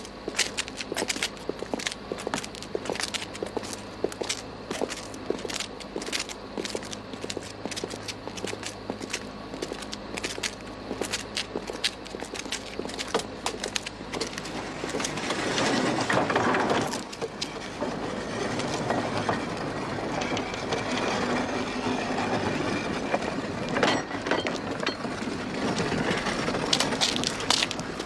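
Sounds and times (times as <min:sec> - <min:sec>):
mine cart rolling on rails: 0:00.0 - 0:28.0.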